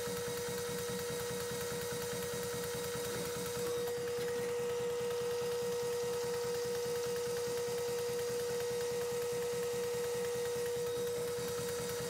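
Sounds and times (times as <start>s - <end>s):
machine tool humming and whining: 0.0s - 12.0s.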